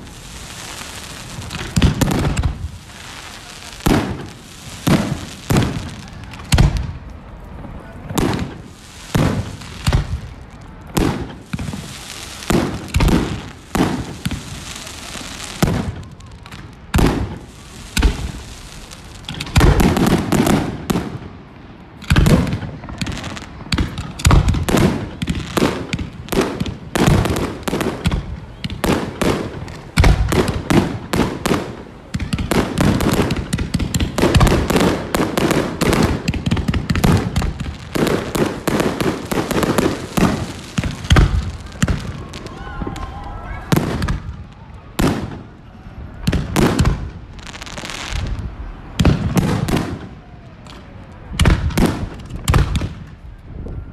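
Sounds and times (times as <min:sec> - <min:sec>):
fireworks bursting in sharp bangs: 0:00.0 - 0:53.2.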